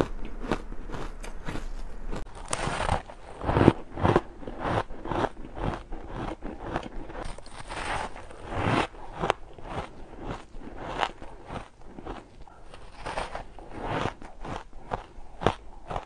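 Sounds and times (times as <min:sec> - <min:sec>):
ice crunching while chewed: 0:00.0 - 0:16.0.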